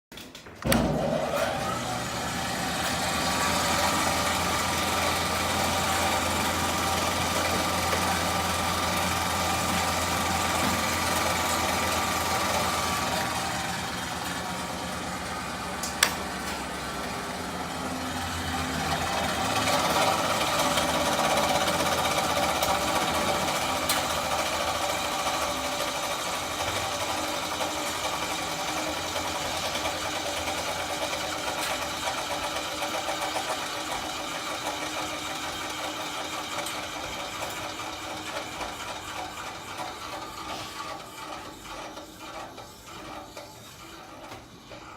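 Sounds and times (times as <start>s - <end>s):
band saw motor humming: 0.6s - 44.9s.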